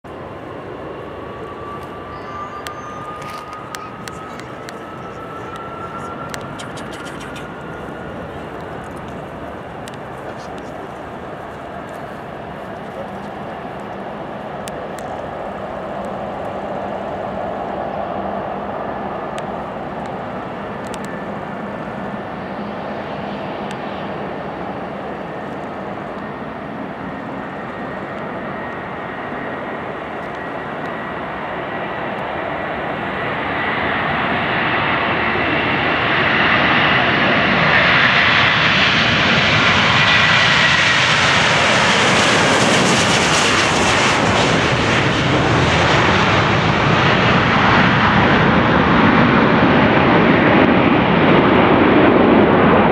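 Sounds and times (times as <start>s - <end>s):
jet engine roar with whine: 0.0s - 52.9s.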